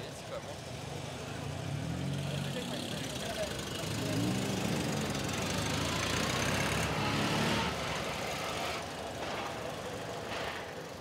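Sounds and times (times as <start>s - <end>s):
small car engines driving past: 0.6s - 10.8s.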